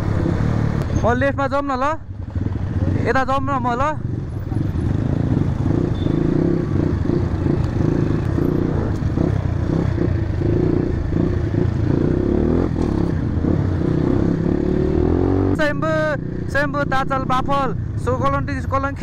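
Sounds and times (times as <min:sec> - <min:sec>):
motorcycle engine revving: 0:00.0 - 0:01.1, 0:02.1 - 0:18.7.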